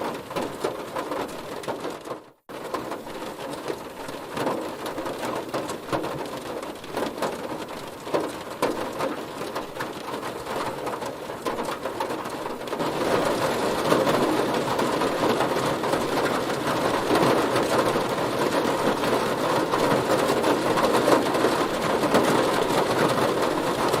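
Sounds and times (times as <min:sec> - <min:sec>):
heavy rain on a car: 0:00.0 - 0:24.0.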